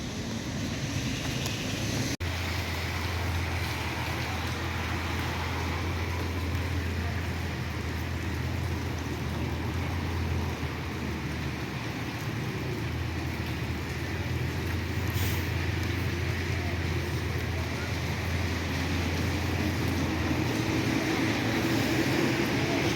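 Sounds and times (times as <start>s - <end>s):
rain falling: 0.0s - 22.9s.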